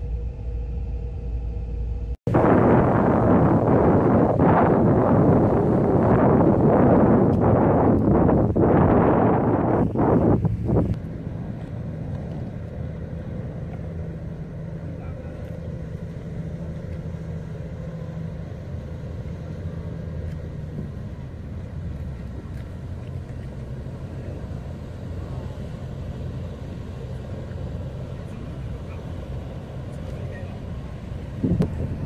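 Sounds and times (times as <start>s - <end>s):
ship engines droning: 0.0s - 32.0s
wind gust on microphone: 2.3s - 32.0s.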